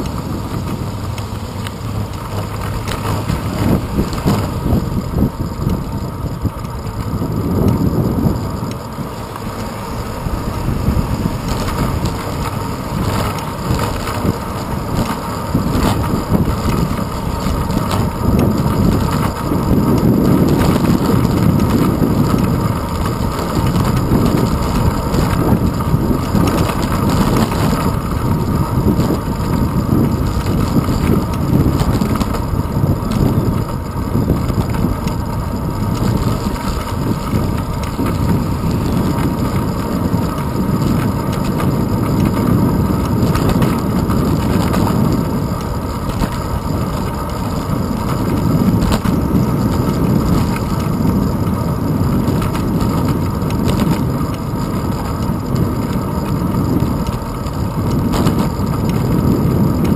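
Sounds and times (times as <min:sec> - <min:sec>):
bicycle road rumble: 0:00.0 - 0:59.9
wind buffeting: 0:00.0 - 0:59.9.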